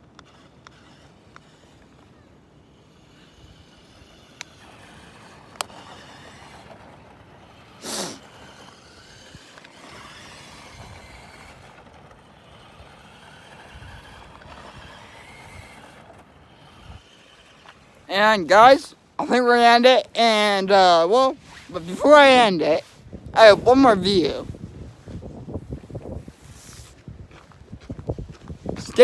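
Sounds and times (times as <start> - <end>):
rc truck motor whine: 0.0 - 29.0.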